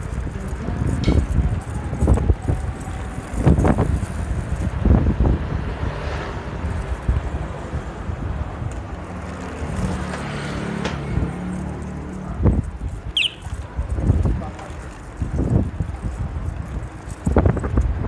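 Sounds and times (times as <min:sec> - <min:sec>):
low road rumble: 0:00.0 - 0:18.0
wind buffeting microphone: 0:00.0 - 0:18.0.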